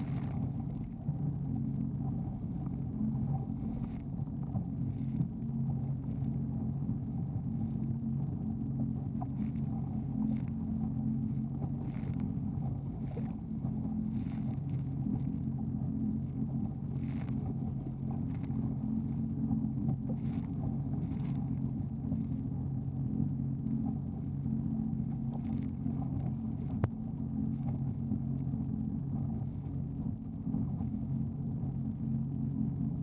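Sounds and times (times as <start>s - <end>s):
jet ski engine running: 0.0s - 33.0s.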